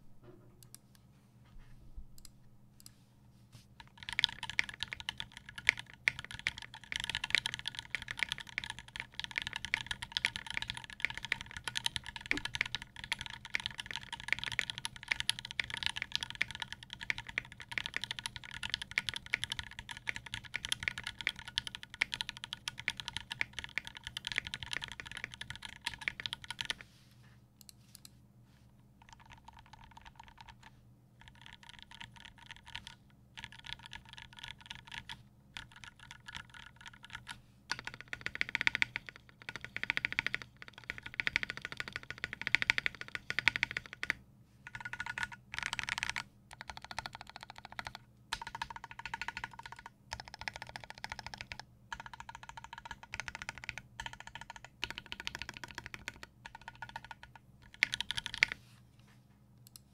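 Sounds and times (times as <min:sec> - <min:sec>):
mechanical keyboard typing: 0:03.8 - 0:26.8, 0:29.0 - 0:58.6.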